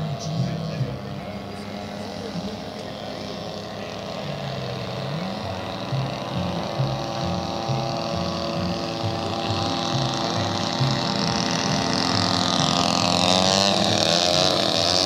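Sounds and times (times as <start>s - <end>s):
model airplane engines droning: 0.0s - 15.0s.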